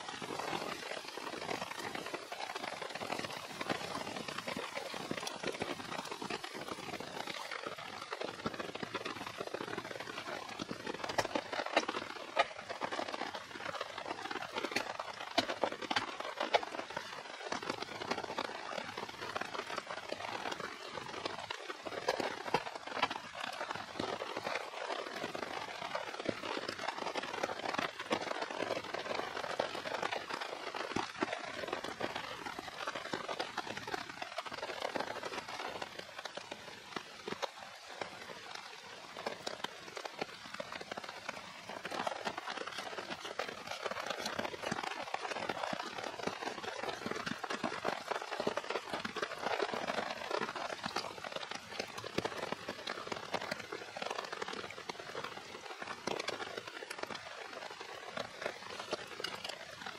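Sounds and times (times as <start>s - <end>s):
falling rain hiss: 0.0s - 54.4s
campfire crackling and popping: 0.0s - 59.9s.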